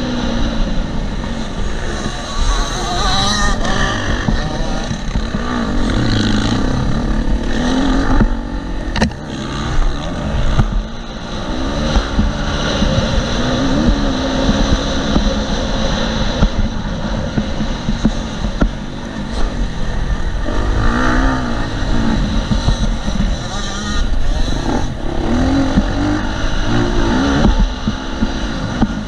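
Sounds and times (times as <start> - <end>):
dirt bike engine revving: 0.0 - 29.0
wind buffeting microphone: 0.0 - 29.0.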